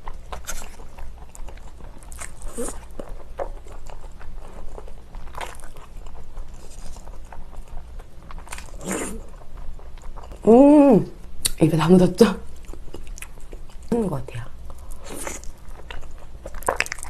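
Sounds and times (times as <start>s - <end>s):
close-miked chewing noodles: 0.0s - 10.8s, 12.4s - 13.9s, 14.5s - 17.0s.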